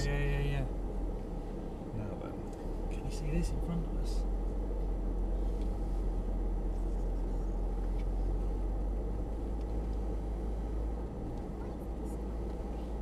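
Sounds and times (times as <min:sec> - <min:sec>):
vehicle rumbling over rough track: 0:00.0 - 0:13.0.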